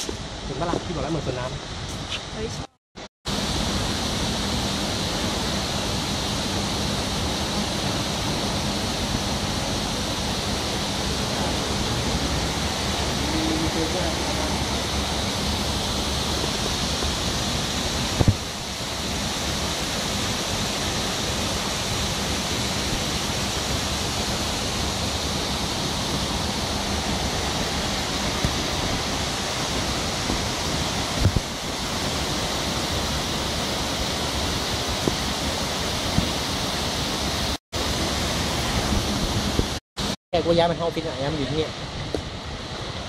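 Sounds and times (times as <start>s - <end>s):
splashing water feature: 3.3s - 40.7s.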